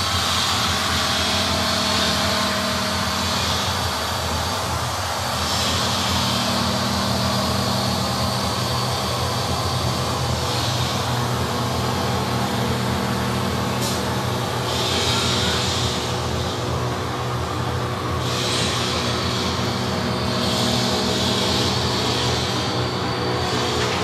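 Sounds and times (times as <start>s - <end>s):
hiss: 0.0s - 16.6s, 18.1s - 24.0s
low electronic drone: 0.0s - 24.0s.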